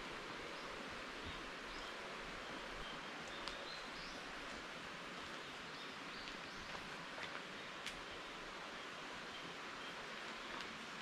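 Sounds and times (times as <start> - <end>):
forest ambience hiss: 0.0 - 11.0.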